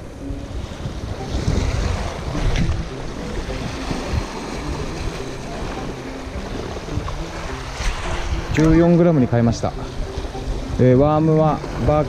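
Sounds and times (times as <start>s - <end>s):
wind buffeting microphone: 0.0s - 12.0s
waves washing over rocks: 0.3s - 12.0s.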